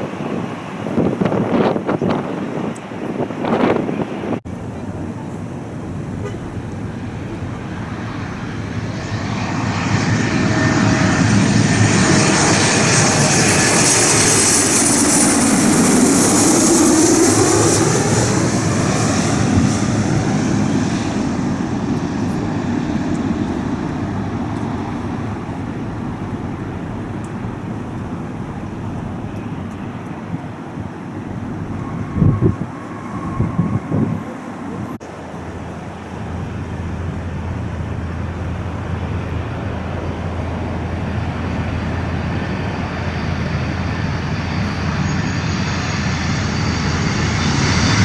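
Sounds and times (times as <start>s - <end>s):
jet engines passing: 0.0s - 48.0s.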